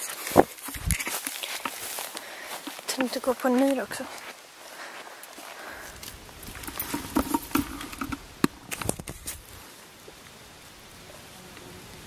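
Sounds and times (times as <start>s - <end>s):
plants rustling and crackling: 0.0s - 12.0s.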